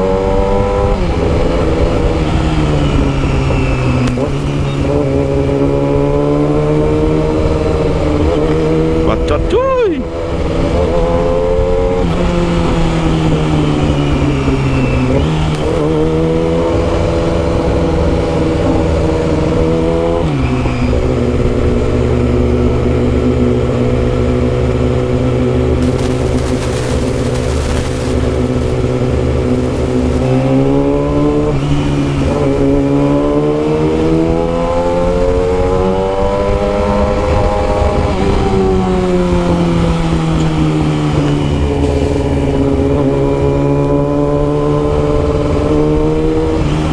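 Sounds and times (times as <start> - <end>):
motorcycle engine while riding: 0.0 - 46.9.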